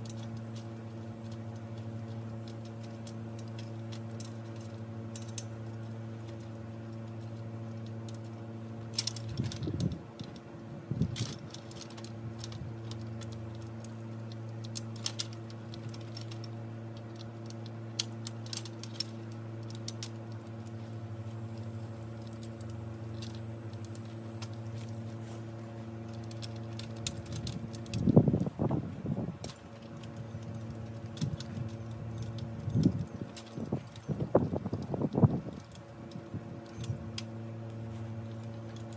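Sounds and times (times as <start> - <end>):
metal frame parts clinking: 0.0 - 28.5, 29.4 - 38.9
steady low hum: 0.0 - 38.9.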